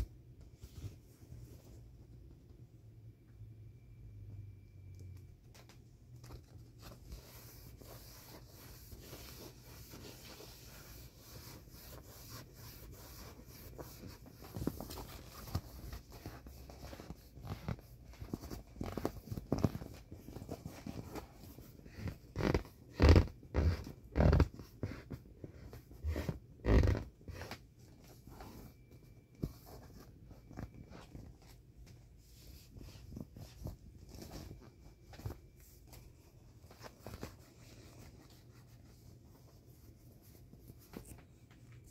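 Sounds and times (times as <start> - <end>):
hand rubbing vinyl toy: 6.3 - 41.9.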